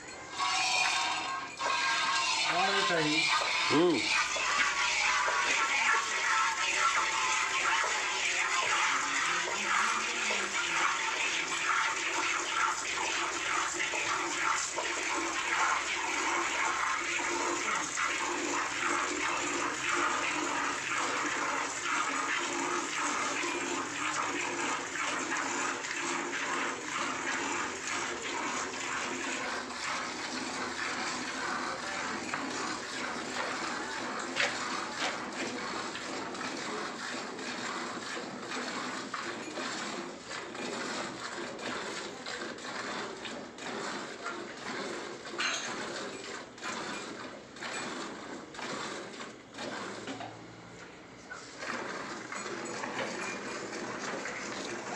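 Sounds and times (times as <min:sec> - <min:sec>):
milk squirting into metal bucket: 0:00.3 - 0:50.4, 0:51.3 - 0:54.9.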